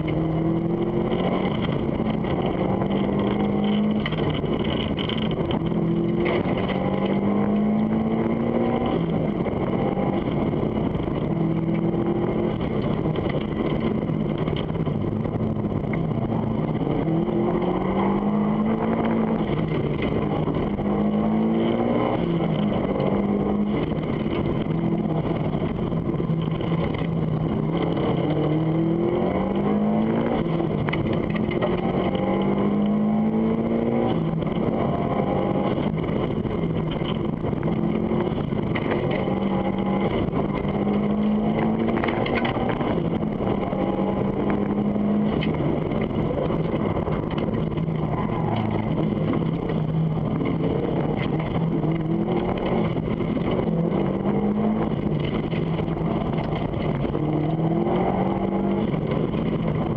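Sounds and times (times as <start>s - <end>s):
rally car engine revving: 0.0s - 59.9s
road and drivetrain rumble: 0.0s - 59.9s.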